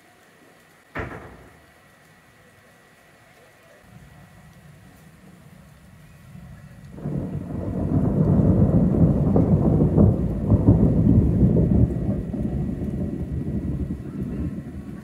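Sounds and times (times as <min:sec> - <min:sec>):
thunder rumbling: 0:01.0 - 0:02.3, 0:03.8 - 0:15.0.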